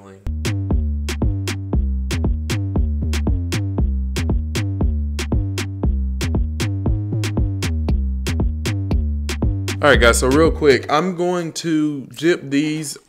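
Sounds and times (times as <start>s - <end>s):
deep bass line: 0.3s - 10.9s
drum machine beat: 0.3s - 10.9s.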